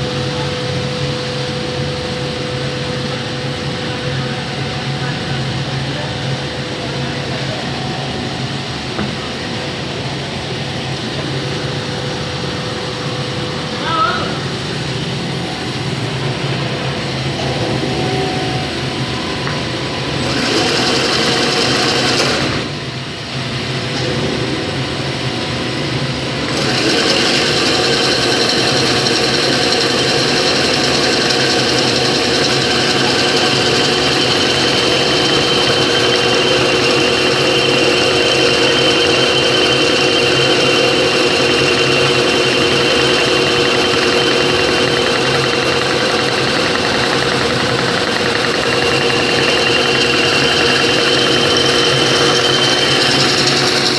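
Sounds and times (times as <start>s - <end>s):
machinery clatter with whining tones: 0.0s - 53.9s.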